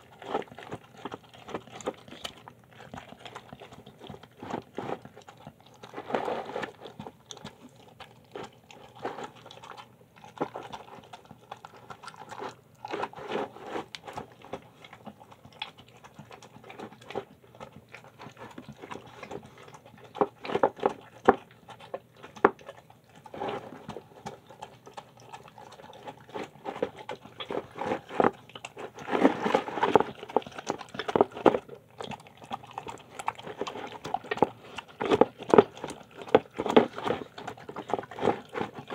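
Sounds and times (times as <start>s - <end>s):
dog chewing and smacking: 0.0s - 38.9s.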